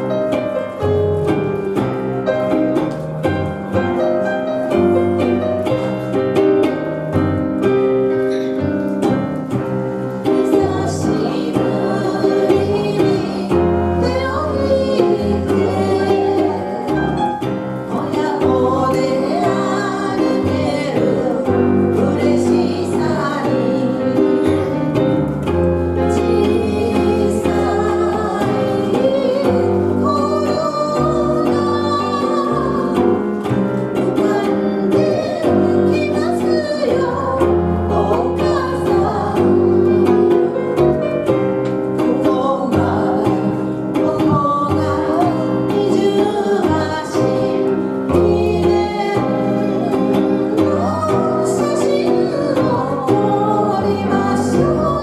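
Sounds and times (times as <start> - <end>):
electric bass: 0.0 - 55.0
electric guitar: 0.0 - 55.0
person singing: 10.1 - 55.0.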